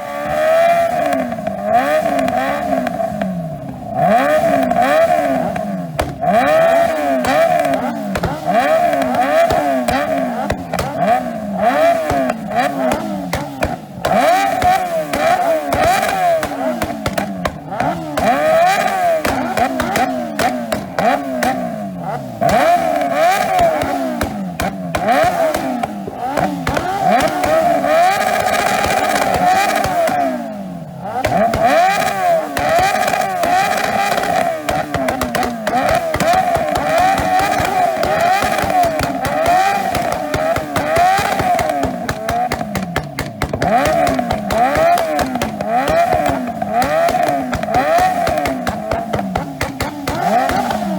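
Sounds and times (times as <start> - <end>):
engine buzzing at rev limiter: 0.0 - 50.9
motorcycle engines revving: 0.0 - 50.9.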